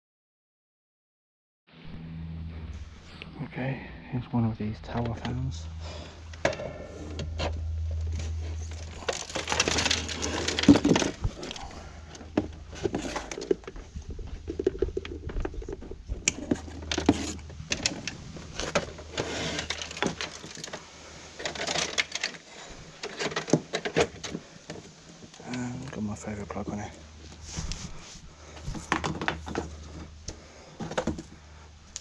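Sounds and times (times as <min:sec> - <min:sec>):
low steady hum: 0:01.8 - 0:32.0.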